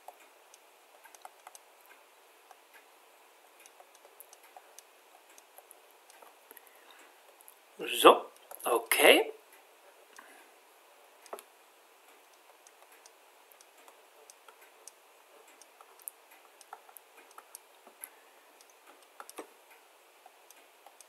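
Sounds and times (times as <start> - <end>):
low hiss: 0.0 - 21.0.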